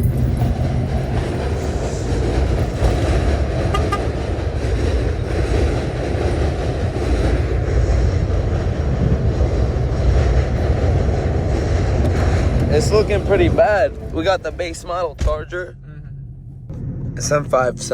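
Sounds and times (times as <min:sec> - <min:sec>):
moving vehicle rumble: 0:00.0 - 0:17.9.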